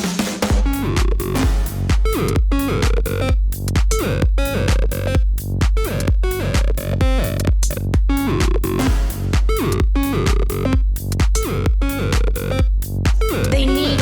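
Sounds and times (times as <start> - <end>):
electronic dance music: 0.0 - 14.0.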